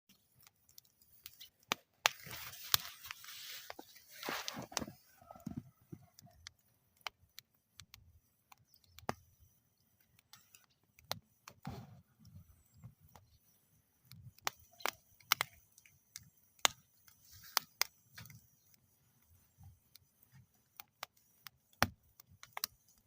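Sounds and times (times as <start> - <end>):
wood fire crackling: 0.1 - 23.0
fire hissing: 1.1 - 22.8.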